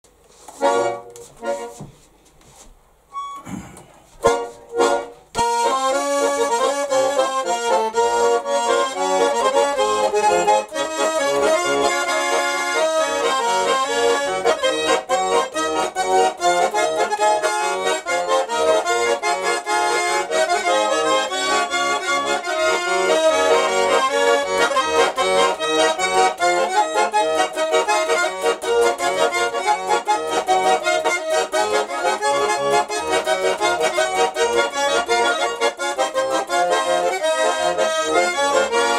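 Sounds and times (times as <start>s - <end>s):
button accordion tune: 0.3s - 2.1s, 3.1s - 38.9s.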